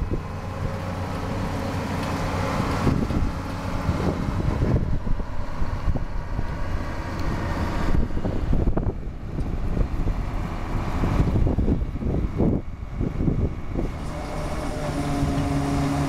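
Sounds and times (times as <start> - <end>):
tractor diesel engine: 0.0 - 16.0
wind buffeting microphone: 0.0 - 16.0.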